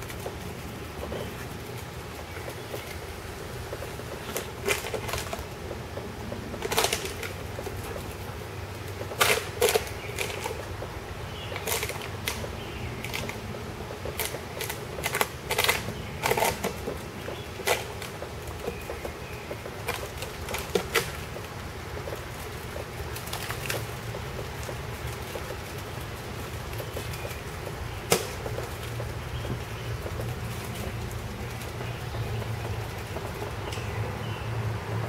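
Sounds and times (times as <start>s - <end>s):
dog chewing plastic bottle: 3.7s - 8.3s, 8.9s - 34.0s.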